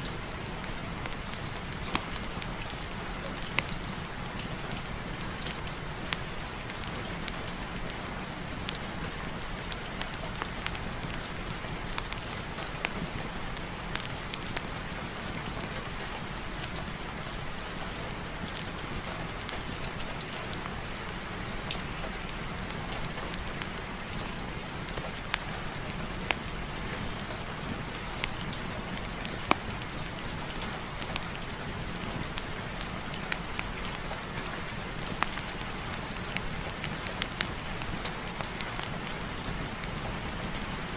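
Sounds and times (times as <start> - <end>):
raindrops ticking on a surface: 0.0 - 40.9
steady rain: 0.0 - 40.9.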